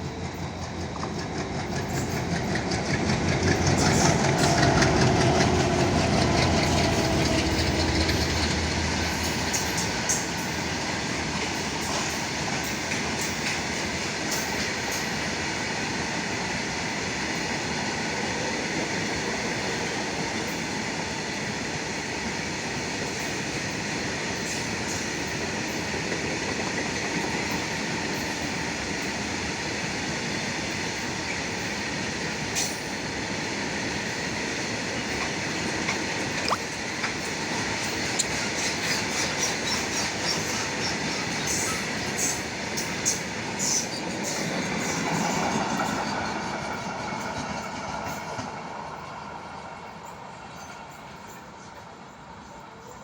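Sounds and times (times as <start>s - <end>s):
diesel locomotives under load: 0.0s - 53.0s.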